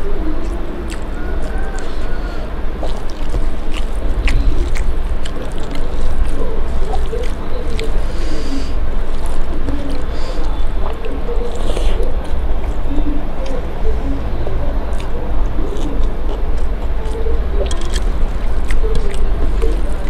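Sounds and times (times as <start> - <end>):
steady low rumble: 0.0 - 20.0
wet food squelching: 0.0 - 20.0.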